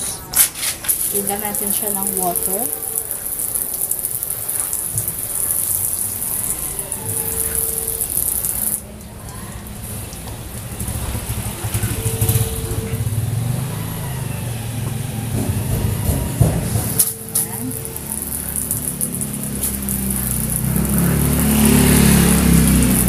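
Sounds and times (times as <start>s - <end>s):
water spraying on glass: 0.4s - 12.7s, 15.5s - 23.0s.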